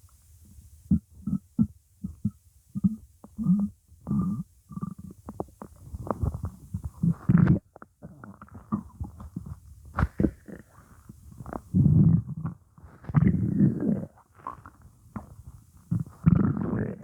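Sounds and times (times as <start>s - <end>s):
stomach growling: 0.9s - 17.0s.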